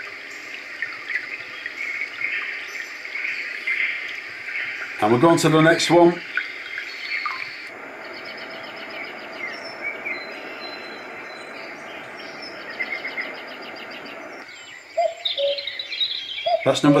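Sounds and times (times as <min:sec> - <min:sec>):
steady rushing hiss: 0:00.0 - 0:15.0
birds chirping and trilling: 0:00.0 - 0:17.0.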